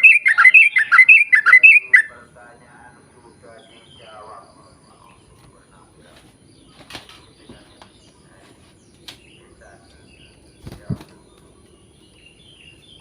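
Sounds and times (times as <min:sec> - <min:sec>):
faint bird chirps: 0:00.0 - 0:13.0
insects buzzing: 0:00.0 - 0:13.0.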